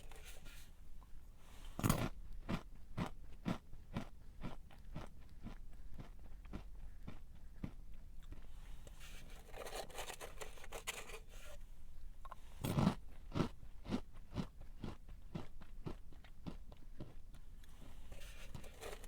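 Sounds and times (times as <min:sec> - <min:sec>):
crunching and chewing snack: 0:00.0 - 0:11.3, 0:12.2 - 0:19.0.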